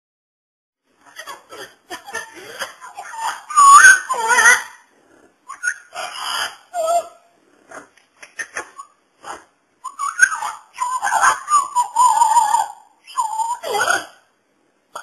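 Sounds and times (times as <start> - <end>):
parrot chattering and whistling: 1.0 - 14.3.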